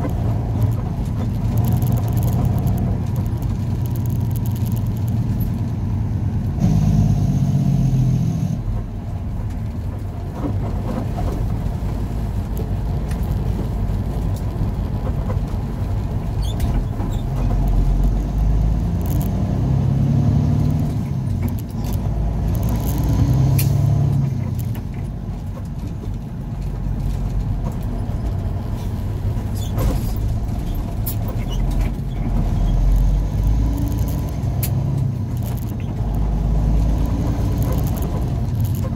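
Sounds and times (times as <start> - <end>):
road noise inside cab: 0.0 - 38.9
truck engine: 0.0 - 38.9.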